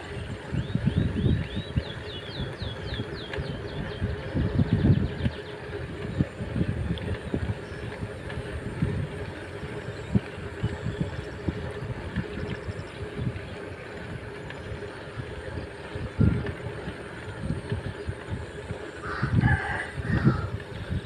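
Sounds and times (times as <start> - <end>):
road and wind noise: 0.0 - 21.0
wind buffeting microphone: 0.0 - 21.0.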